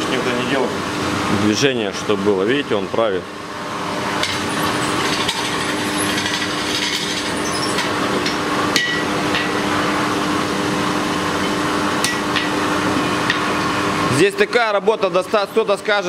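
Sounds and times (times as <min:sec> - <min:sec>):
forge blower hum: 0:00.0 - 0:16.0.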